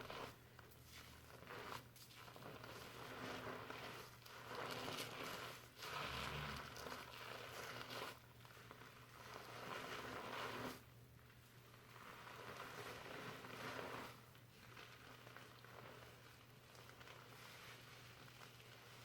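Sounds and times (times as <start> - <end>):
fingers scrubbing shampooed hair: 0.0 - 10.9, 11.8 - 19.0.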